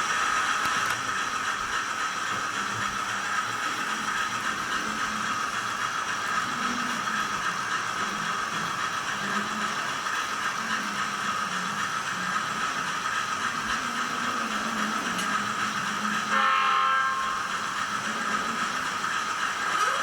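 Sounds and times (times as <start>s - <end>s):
diesel engine sound from small speaker: 0.0s - 20.0s.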